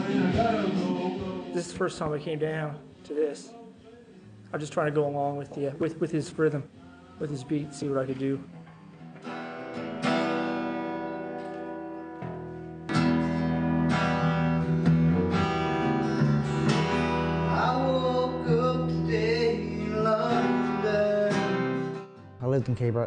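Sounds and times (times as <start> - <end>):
acoustic guitar strumming: 0.0 - 3.4, 7.3 - 22.5.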